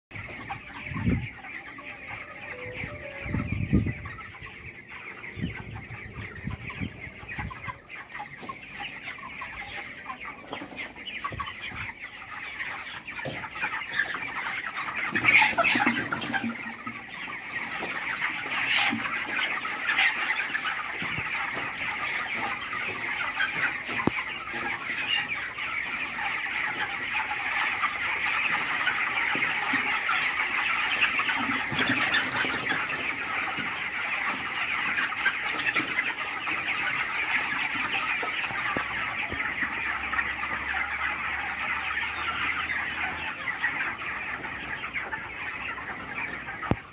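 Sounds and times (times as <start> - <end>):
chickens clucking and cheeping: 0.1 - 46.9
sharp chicken calls: 0.1 - 46.9.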